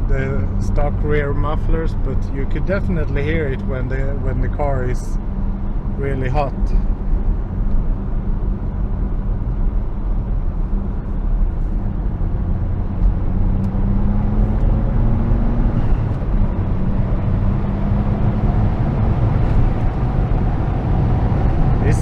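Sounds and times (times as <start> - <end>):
car engine running: 0.0 - 22.0
road and wind noise: 0.0 - 22.0.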